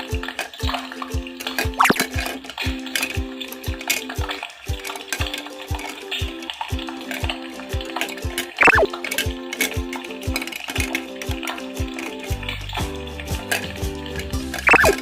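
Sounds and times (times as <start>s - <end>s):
background music with steady beat: 0.0s - 15.0s
crackling sizzling frying sound: 0.0s - 15.0s.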